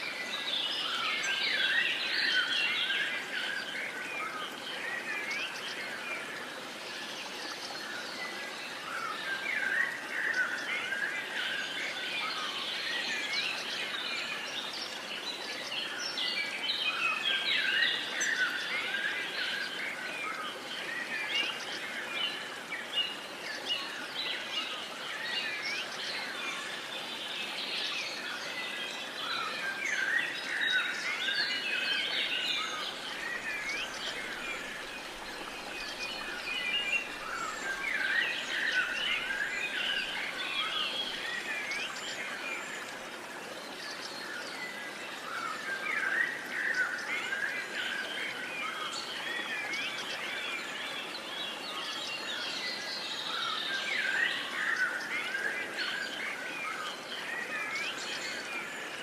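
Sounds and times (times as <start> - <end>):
songbirds chirping: 0.0 - 59.0
steady outdoor hiss: 0.0 - 59.0.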